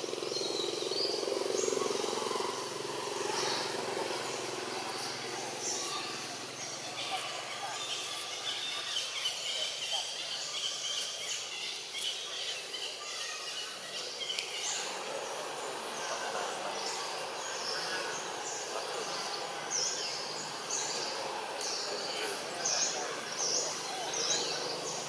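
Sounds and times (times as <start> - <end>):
birds chirping: 0.0 - 25.0
outdoor background noise: 0.0 - 25.0.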